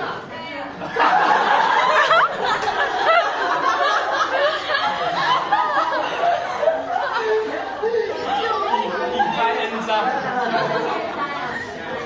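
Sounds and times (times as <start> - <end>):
students laughing and exclaiming: 0.8 - 12.0
excited chatter: 0.9 - 12.0.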